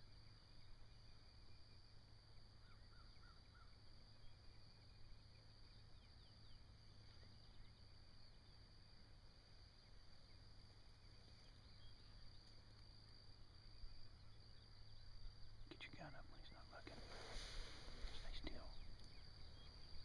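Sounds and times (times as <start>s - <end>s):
soft bird chirps: 0.0s - 20.0s
steady high hiss: 0.0s - 20.0s.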